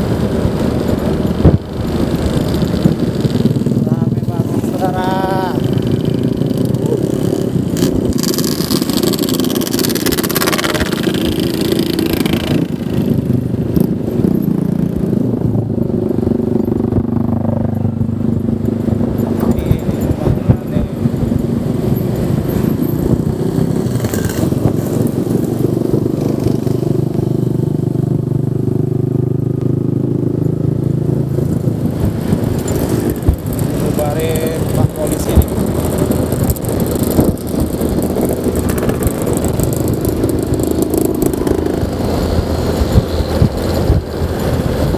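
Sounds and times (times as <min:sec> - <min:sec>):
scooter engine running: 0:00.0 - 0:44.9
wind noise on microphone: 0:00.0 - 0:44.9.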